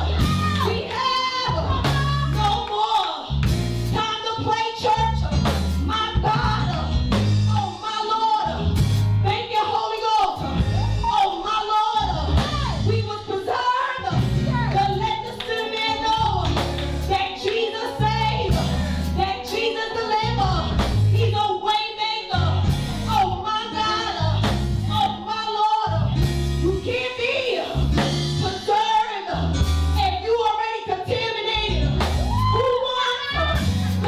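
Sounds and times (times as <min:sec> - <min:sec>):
live instrumental accompaniment: 0:00.0 - 0:34.0
rhythmic bass line: 0:00.0 - 0:34.0
woman singing gospel: 0:00.0 - 0:34.0.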